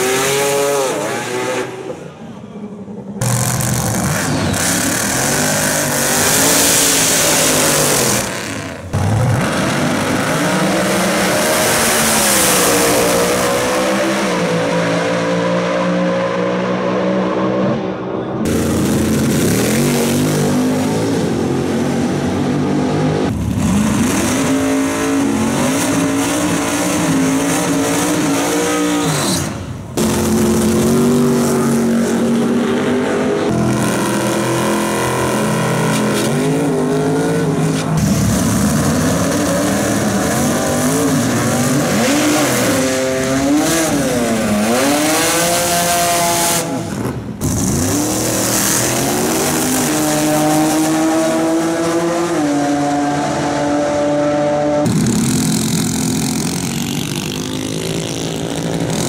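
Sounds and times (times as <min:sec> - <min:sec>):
drag racing cars accelerating: 0:00.0 - 0:59.0.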